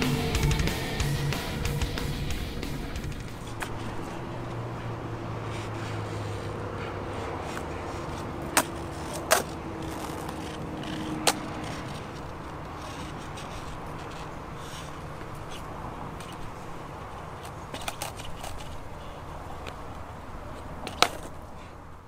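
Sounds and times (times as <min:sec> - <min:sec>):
skateboard clacks: 0:00.0 - 0:04.8, 0:05.4 - 0:21.8
skateboard rolling on asphalt: 0:00.0 - 0:22.0.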